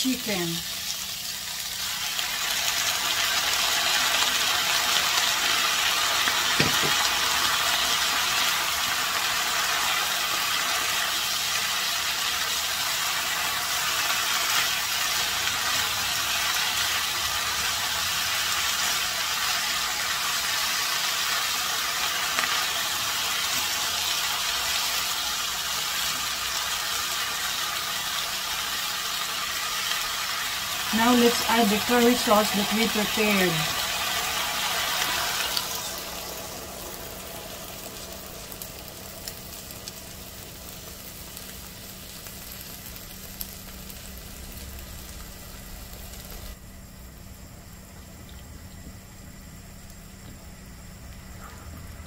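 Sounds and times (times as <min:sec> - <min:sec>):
food sizzling in a wok: 0:00.0 - 0:51.4.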